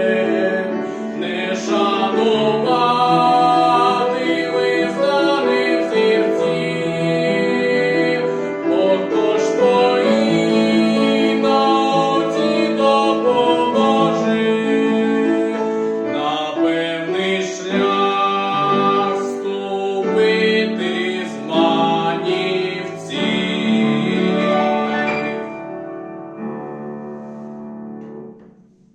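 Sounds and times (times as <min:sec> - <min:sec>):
man singing art song: 0:00.0 - 0:25.4
piano accompaniment: 0:00.0 - 0:28.9.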